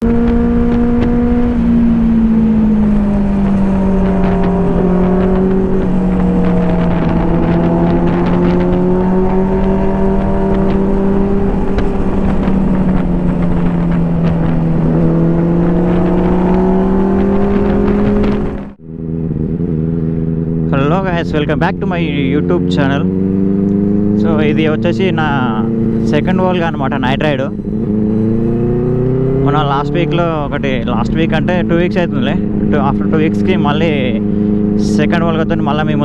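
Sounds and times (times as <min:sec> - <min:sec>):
motorcycle engines at high revs: 0:00.0 - 0:36.0.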